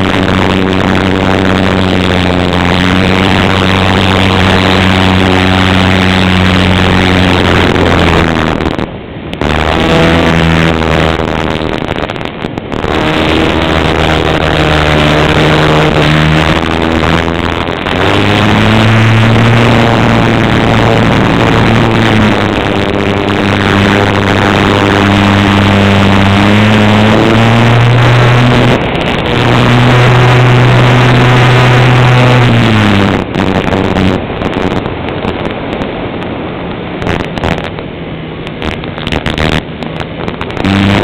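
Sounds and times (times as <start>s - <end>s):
light aircraft engine droning: 0.0s - 41.0s.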